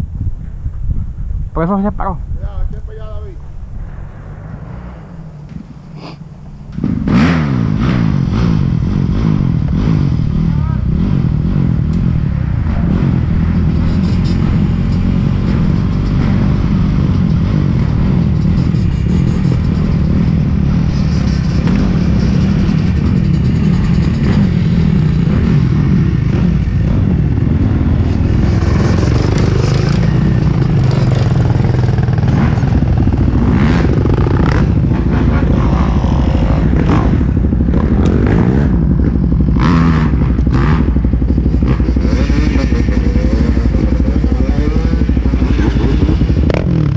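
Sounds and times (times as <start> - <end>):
atv engine running: 3.0 - 46.9.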